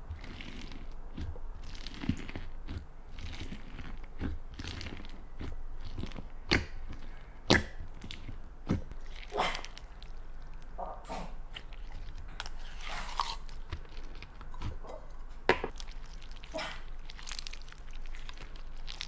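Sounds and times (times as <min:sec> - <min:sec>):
slime squishing and crackling: 0:00.0 - 0:10.8, 0:11.5 - 0:19.0.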